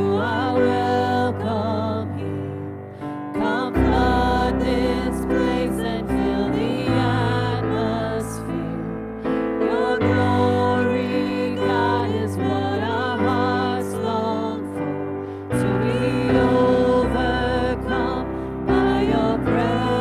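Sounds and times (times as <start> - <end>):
women singing worship song: 0.0 - 20.0.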